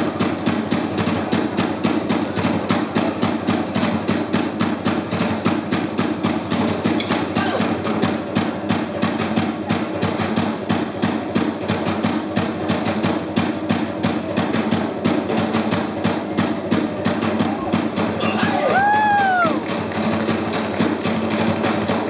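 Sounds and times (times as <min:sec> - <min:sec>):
rapid drumbeat: 0:00.0 - 0:22.0.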